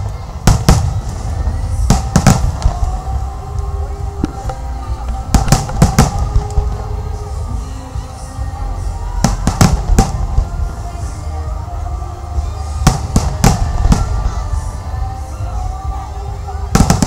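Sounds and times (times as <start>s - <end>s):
fireworks bursting with sharp bangs: 0.0s - 11.1s, 12.4s - 17.0s
steady low rumble: 0.0s - 17.0s.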